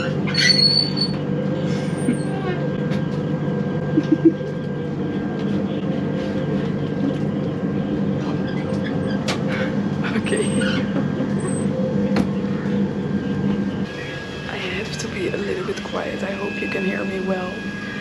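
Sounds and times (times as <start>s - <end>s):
train rumbling inside carriage: 0.0s - 18.0s.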